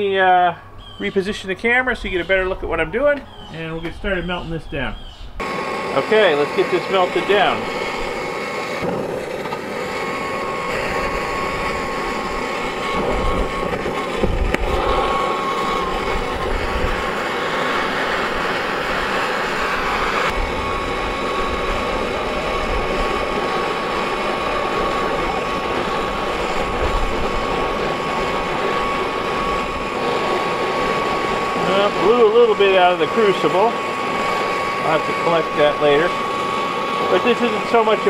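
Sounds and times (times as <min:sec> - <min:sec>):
gas torch hissing: 0:05.3 - 0:38.0.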